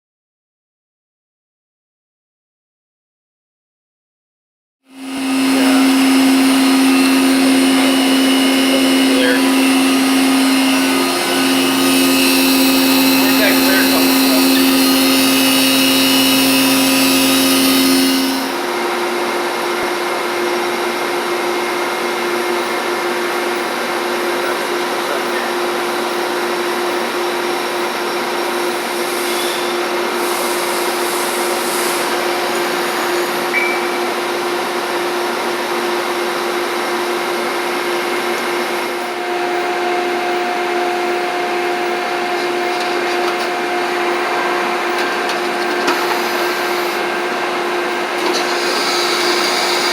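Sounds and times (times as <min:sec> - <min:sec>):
milling machine hum and whine: 0:04.9 - 0:49.9.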